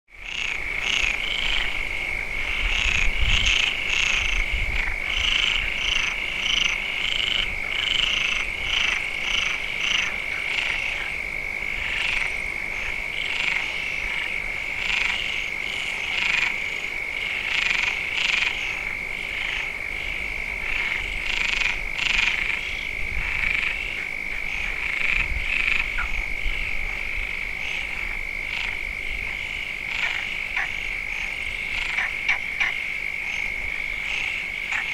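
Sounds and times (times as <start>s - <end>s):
frogs croaking: 0.1s - 34.9s.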